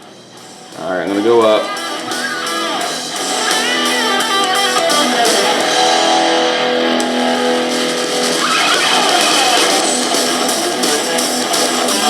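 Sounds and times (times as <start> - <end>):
guitar song through small speaker: 0.0 - 12.0.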